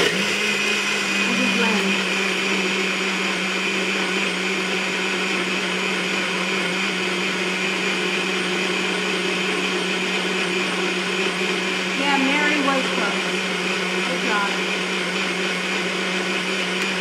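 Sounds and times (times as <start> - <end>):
blender running: 0.0 - 17.0.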